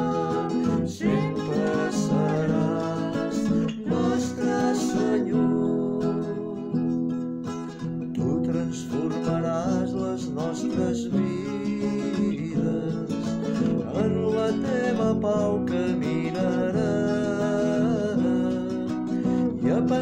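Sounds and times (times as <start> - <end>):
person singing: 0.0 - 7.2, 8.2 - 20.0
acoustic guitar: 0.0 - 20.0.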